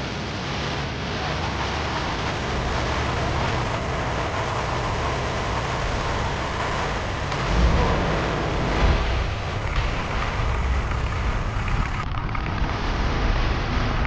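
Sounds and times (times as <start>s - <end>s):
driving and wind noise: 0.0s - 14.0s
vehicle engine rumble: 0.0s - 14.0s.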